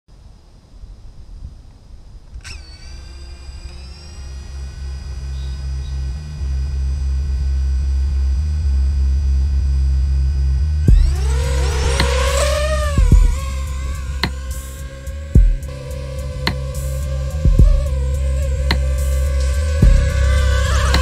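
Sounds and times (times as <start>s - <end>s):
drone motors whining: 1.8s - 21.0s
low rumble: 3.4s - 21.0s.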